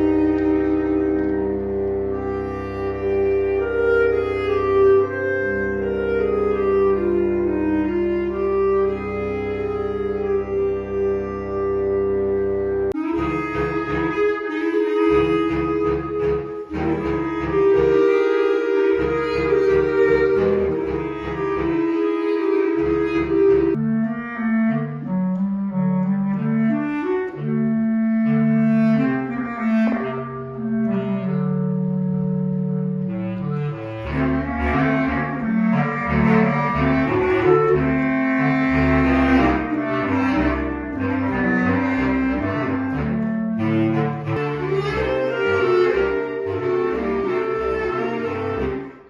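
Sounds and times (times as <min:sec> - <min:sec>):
instrumental ensemble music: 0:00.0 - 0:49.0.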